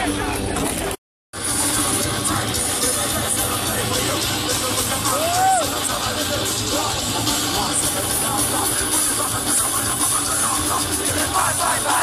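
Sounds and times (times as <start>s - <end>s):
crowd noise: 0.0s - 12.0s
distorted heavy metal band: 0.0s - 12.0s.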